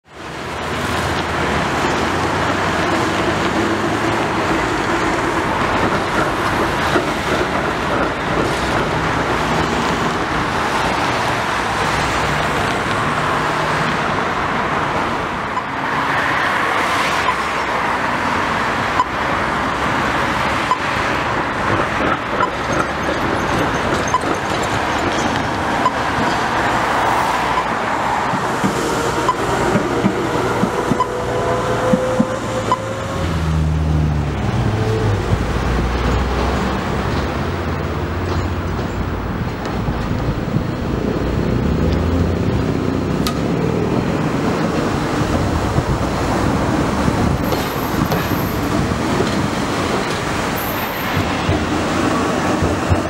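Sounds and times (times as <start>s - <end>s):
road traffic: 0.0s - 53.0s.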